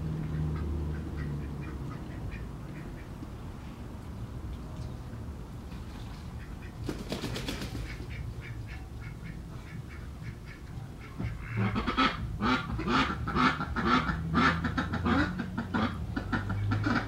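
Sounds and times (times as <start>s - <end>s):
distant city noise drone: 0.0s - 17.0s
ducks quacking: 0.1s - 3.2s, 6.3s - 17.0s.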